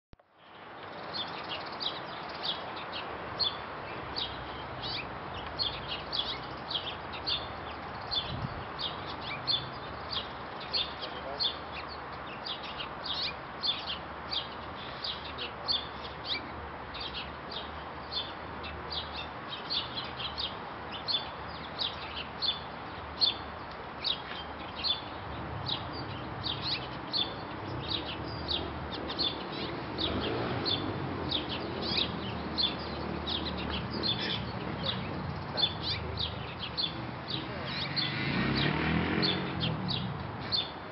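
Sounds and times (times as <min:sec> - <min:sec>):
small birds chirping: 0:00.3 - 0:40.9.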